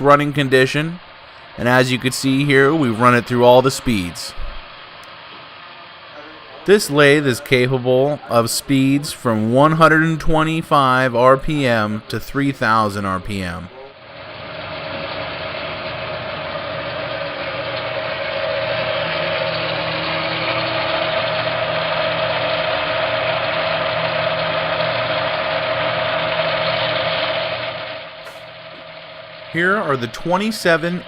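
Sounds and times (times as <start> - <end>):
lathe whirring: 0.0 - 31.0.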